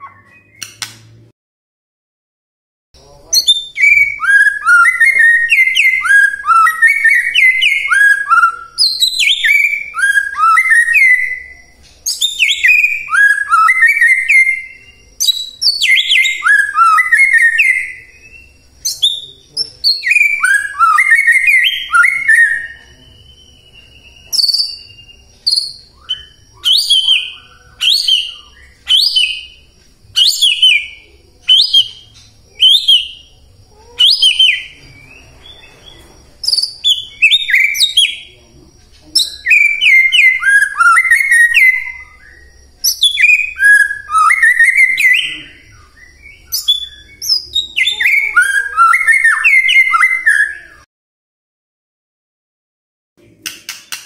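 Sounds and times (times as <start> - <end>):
bird singing whistled notes: 0.0 - 0.8, 3.0 - 50.9.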